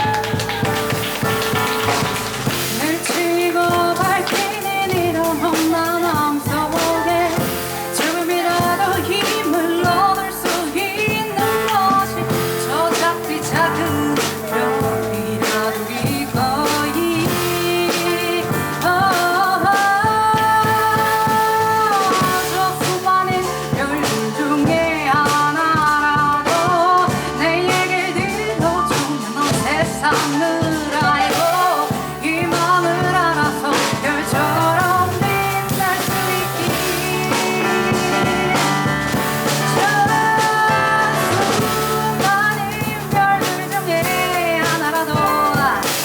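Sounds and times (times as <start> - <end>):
double bass: 0.0 - 25.2, 31.0 - 45.9
drum kit: 0.0 - 46.0
piano: 0.0 - 46.0.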